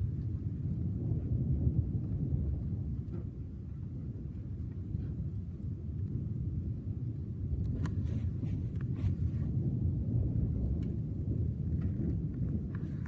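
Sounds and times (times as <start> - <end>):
distant thunder rumbling: 0.0 - 13.0.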